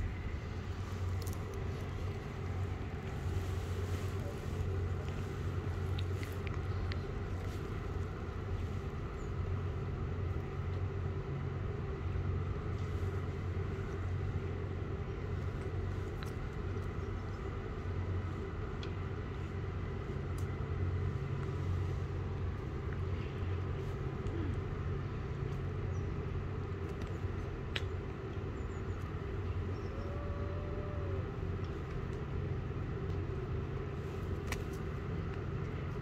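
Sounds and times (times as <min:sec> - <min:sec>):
low rumble: 0:00.0 - 0:36.0.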